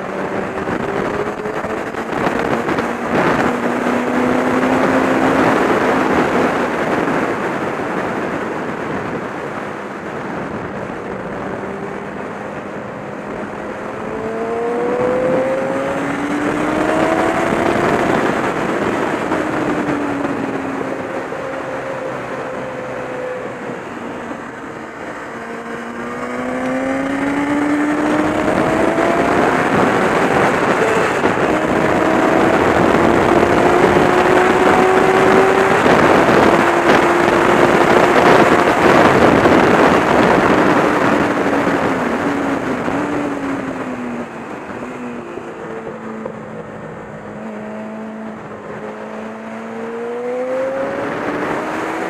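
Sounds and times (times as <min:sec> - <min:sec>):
racing motorcycle engine: 0:00.0 - 0:52.0
wind noise: 0:00.0 - 0:52.0.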